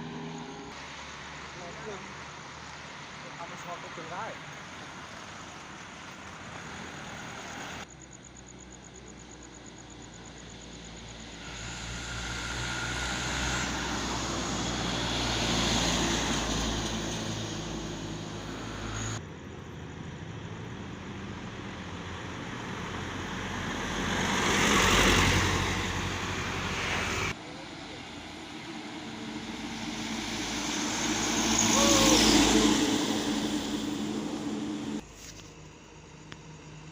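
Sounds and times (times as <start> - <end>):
trucks driving past: 0.0 - 35.0.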